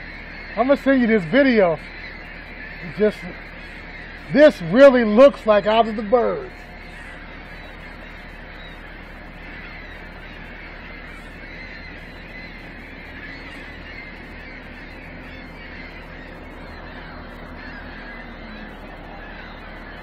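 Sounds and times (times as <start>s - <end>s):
large flock of birds calling: 0.0s - 20.0s.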